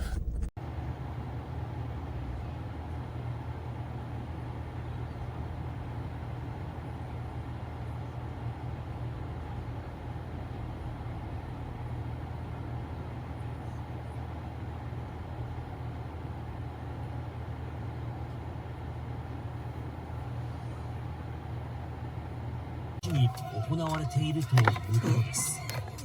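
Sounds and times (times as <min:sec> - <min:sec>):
road noise: 0:00.0 - 0:26.0.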